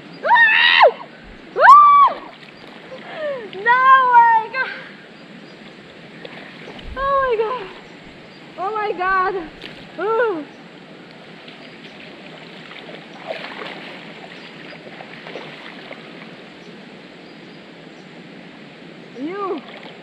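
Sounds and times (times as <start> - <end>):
muddy water sloshing and splashing: 1.1 - 16.6, 19.5 - 20.0.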